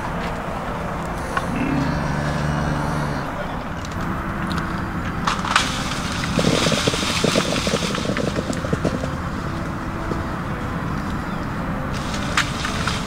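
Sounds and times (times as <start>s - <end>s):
motor rumbling: 0.0s - 13.0s.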